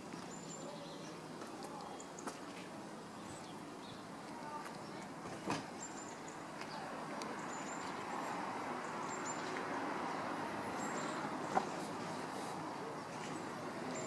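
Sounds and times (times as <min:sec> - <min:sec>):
traffic hum: 0:00.0 - 0:14.0.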